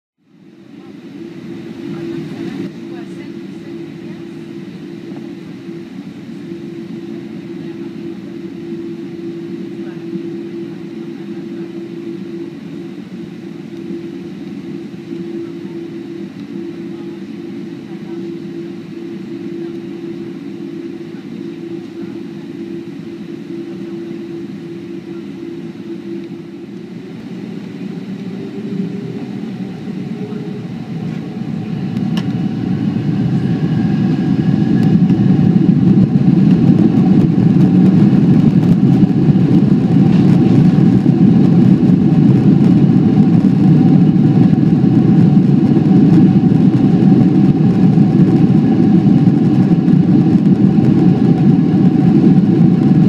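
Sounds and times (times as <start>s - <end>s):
jet engines roaring: 0.4s - 53.0s
whining fan tones: 0.5s - 53.0s.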